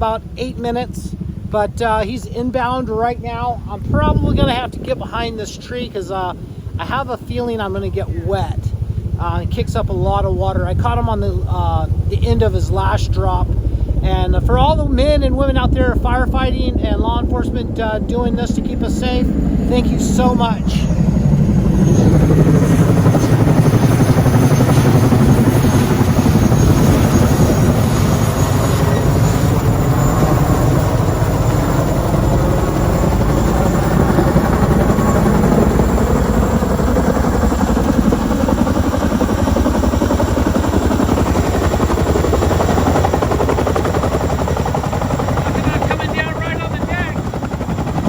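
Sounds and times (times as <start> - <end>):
helicopter rotor blades beating: 0.0 - 48.0
high turbine whine: 0.0 - 48.0.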